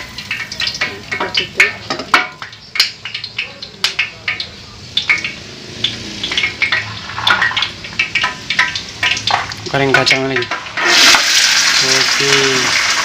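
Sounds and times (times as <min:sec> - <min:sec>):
kitchen utensils clinking: 0:00.0 - 0:13.0
oil crackling in a frying pan: 0:00.0 - 0:13.0.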